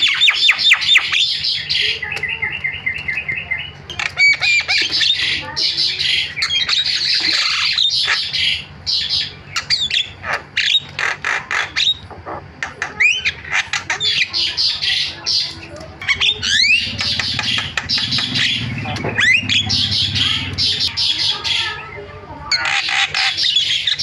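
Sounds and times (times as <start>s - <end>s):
myna singing chattering squawks: 0.0s - 24.0s.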